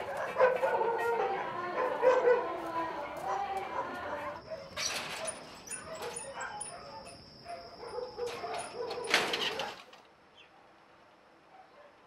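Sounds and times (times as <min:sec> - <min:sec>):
dogs barking and yelping: 0:00.0 - 0:10.0, 0:11.5 - 0:12.0.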